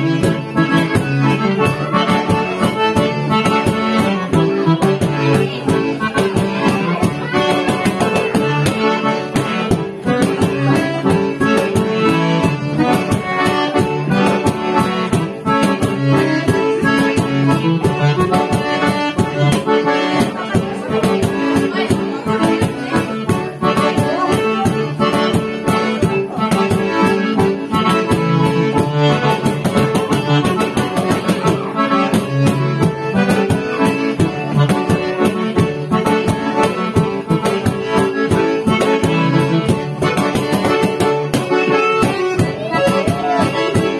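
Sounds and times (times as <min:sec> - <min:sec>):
accordion music: 0:00.0 - 0:43.9.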